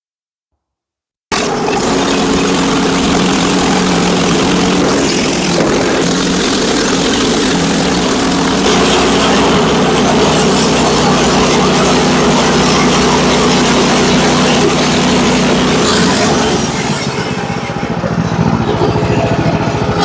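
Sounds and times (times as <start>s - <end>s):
engine running with loud hiss: 1.3s - 20.0s.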